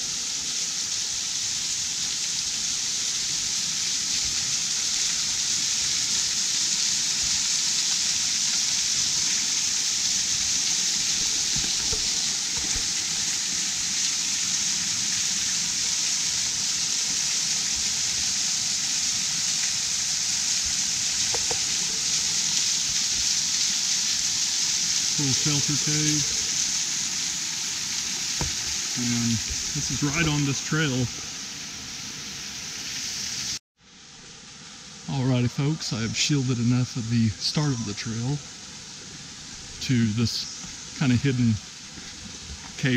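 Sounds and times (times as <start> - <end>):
waterfall splashing: 0.0 - 33.6, 35.0 - 42.9.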